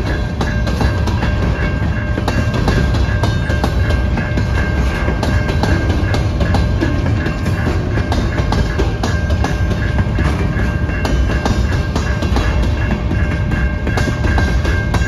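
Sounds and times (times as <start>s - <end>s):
crossing warning bell ringing: 0.0s - 15.0s
freight train rumbling past: 0.0s - 15.0s
wheels clicking over rail joints: 0.0s - 15.0s.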